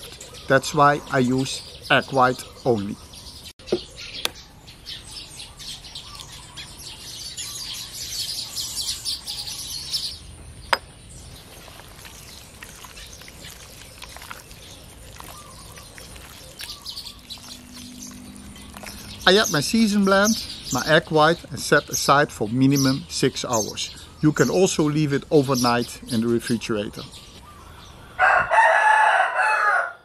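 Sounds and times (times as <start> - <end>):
birds chirping and calling: 0.0 - 30.0.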